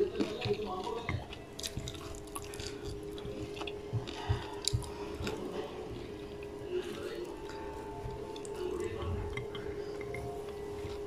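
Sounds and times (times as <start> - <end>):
faint steady hum: 0.0 - 11.0
soft chewing: 0.0 - 11.0.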